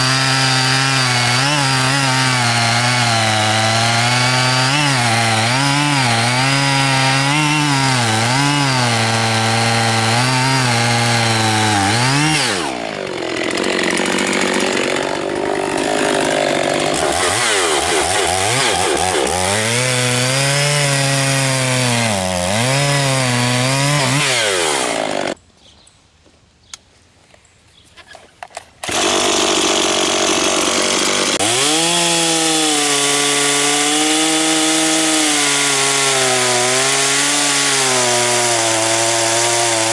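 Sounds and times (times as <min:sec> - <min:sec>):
chainsaw cutting wood: 0:00.0 - 0:25.4, 0:28.5 - 0:39.9.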